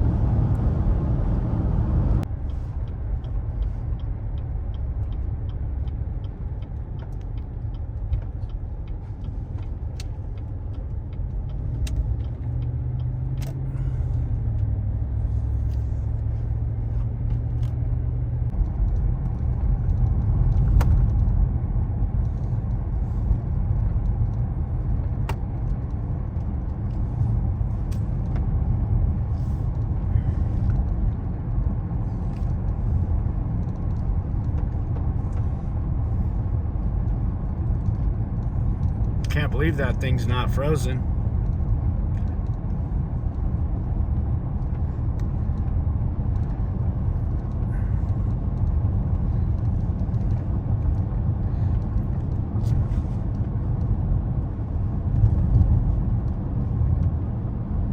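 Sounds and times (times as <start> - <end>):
vehicle engine and road noise: 0.0 - 57.9.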